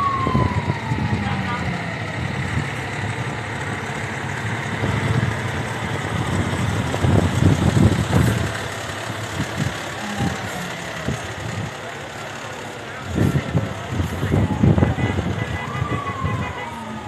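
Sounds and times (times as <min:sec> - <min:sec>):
fire truck diesel engine rumbling: 0:00.0 - 0:17.0.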